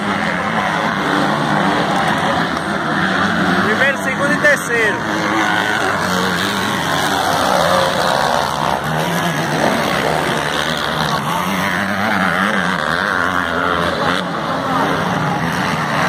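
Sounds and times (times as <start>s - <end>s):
racing motorcycles engines: 0.0s - 16.0s.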